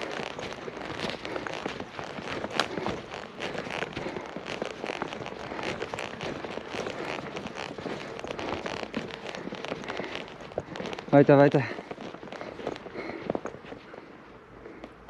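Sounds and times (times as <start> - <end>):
footsteps crunching through snow: 0.0 - 14.8.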